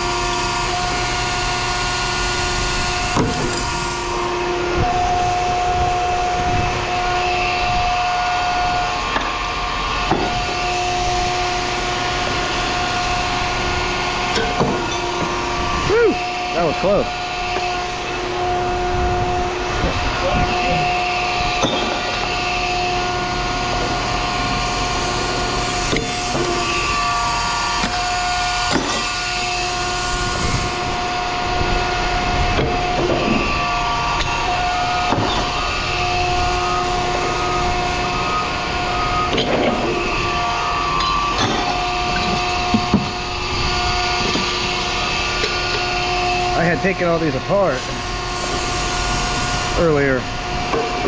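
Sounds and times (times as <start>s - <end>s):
machine hum with tones: 0.0s - 51.0s.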